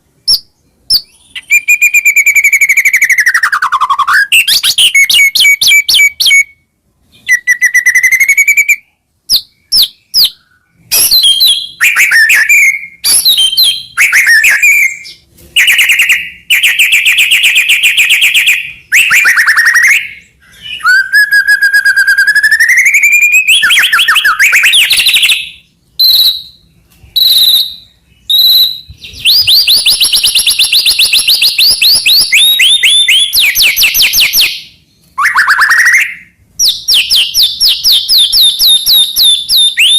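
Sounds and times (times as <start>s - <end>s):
bird singing trills and whistles: 0.2s - 39.9s.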